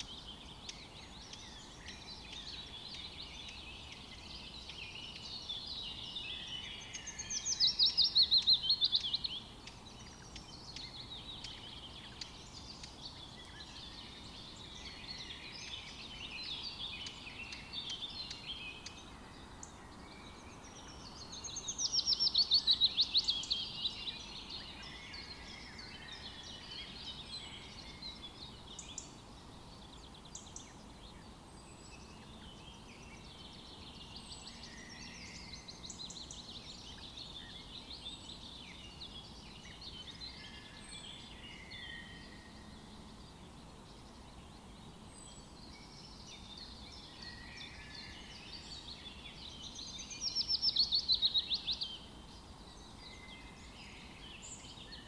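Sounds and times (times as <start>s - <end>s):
birds singing: 0.0s - 55.0s
faint background hiss: 0.0s - 55.0s.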